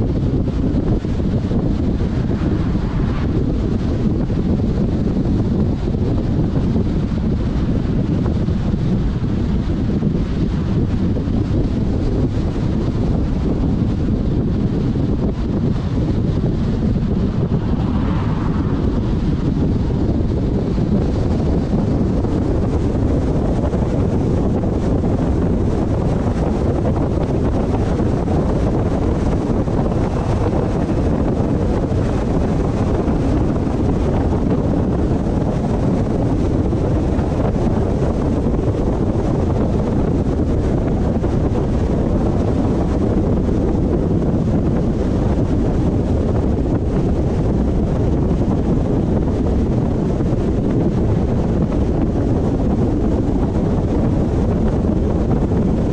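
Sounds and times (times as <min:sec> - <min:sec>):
car road and wind noise: 0:00.0 - 0:55.9.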